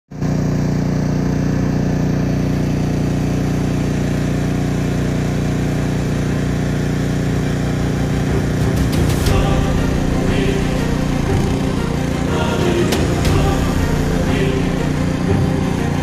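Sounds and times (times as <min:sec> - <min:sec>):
snowblower engine running: 0:00.1 - 0:16.0.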